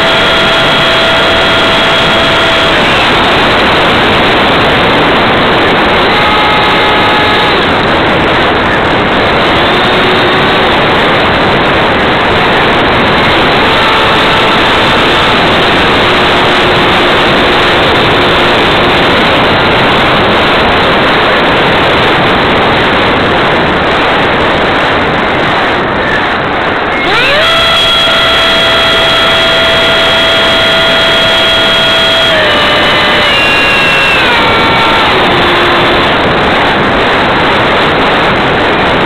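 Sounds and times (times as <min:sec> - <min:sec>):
ducted fan whine: 0:00.0 - 0:39.0.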